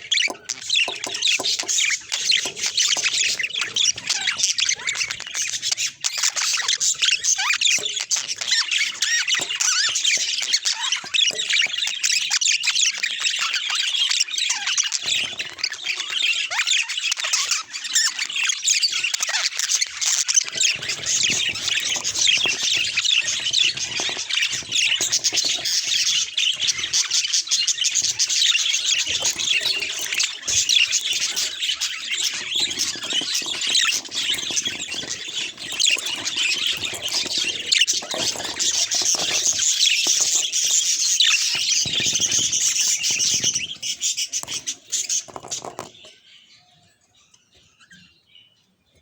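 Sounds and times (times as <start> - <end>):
budgies chirping and warbling: 0.0 - 49.0.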